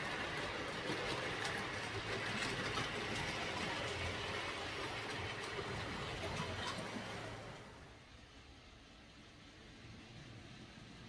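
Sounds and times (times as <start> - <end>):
model train wheels on rails: 0.0 - 11.0.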